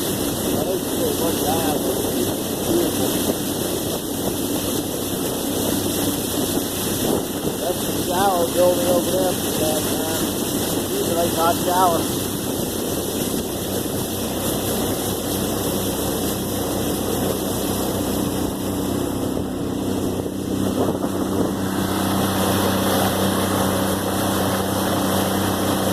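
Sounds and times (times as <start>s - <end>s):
outboard motor running: 0.0s - 25.9s.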